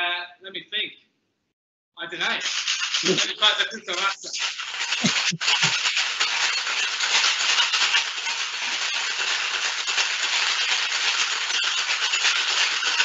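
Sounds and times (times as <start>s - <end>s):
ice rattling in cocktail shaker: 2.2s - 13.0s.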